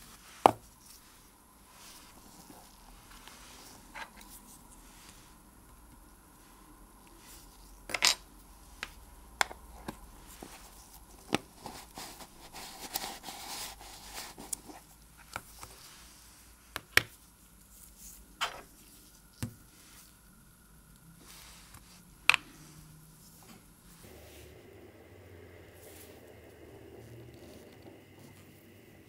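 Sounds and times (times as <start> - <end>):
soft rustle: 0.0 - 24.7.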